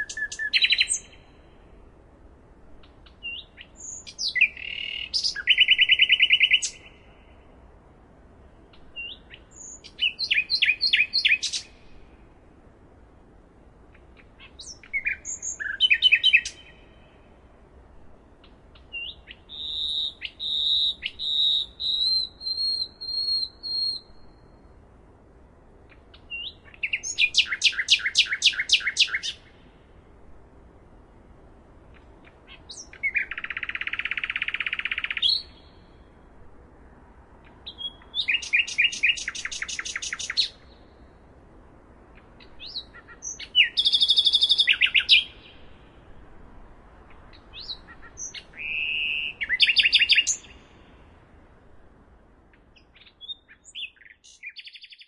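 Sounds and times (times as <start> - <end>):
nightingale singing: 0.0 - 1.7, 2.8 - 7.8, 8.4 - 12.3, 13.9 - 17.4, 18.3 - 24.9, 25.9 - 29.9, 31.9 - 36.3, 37.4 - 41.3, 42.1 - 51.6, 52.5 - 55.0.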